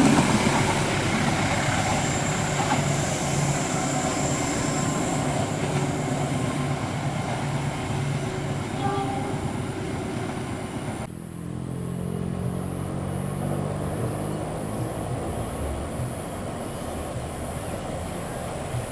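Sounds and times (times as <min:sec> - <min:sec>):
train rumbling on rails: 0:00.0 - 0:18.9.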